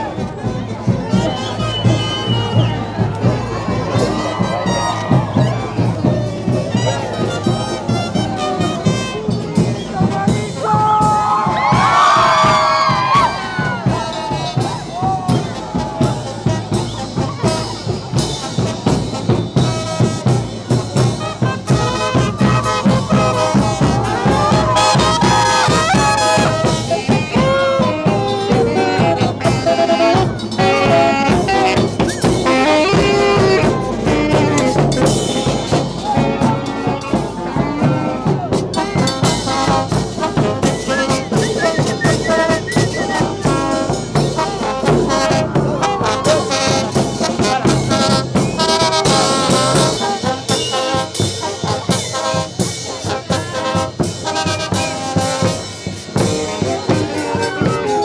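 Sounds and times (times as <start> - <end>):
steady drum beat: 0.0 - 58.0
trumpets and trombones melody: 1.0 - 5.8, 6.4 - 9.6, 11.6 - 58.0.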